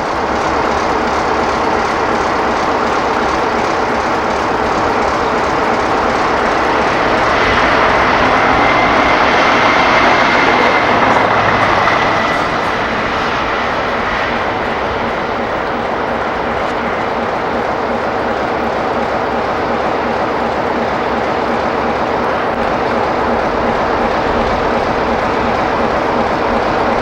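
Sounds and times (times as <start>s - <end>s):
diesel locomotive engine running: 0.0s - 27.0s
high whistling whine: 0.0s - 27.0s.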